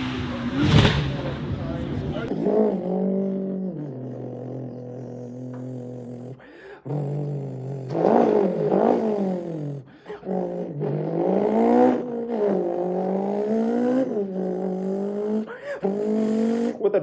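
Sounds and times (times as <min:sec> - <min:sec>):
man imitating car engine: 0:00.1 - 0:17.0.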